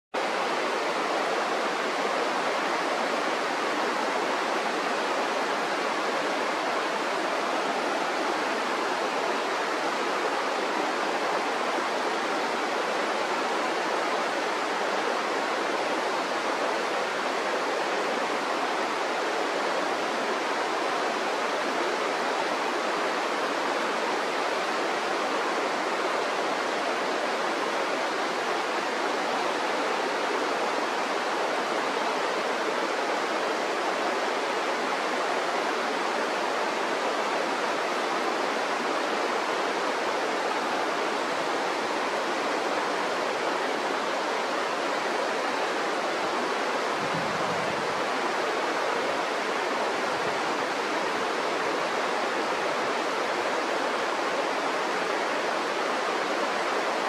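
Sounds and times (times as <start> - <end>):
river rushing: 0.2 - 57.0.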